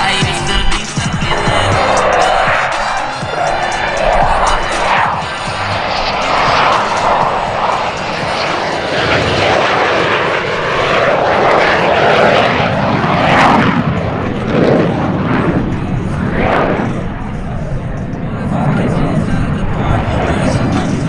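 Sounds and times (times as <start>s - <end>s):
military jet passing low: 0.0s - 21.0s.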